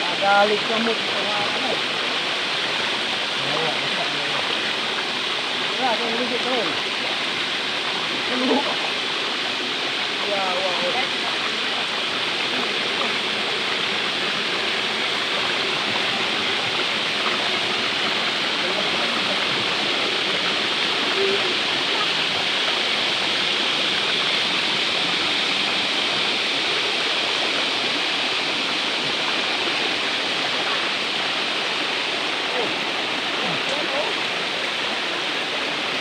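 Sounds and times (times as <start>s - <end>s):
river water rushing over rocks: 0.0s - 36.0s.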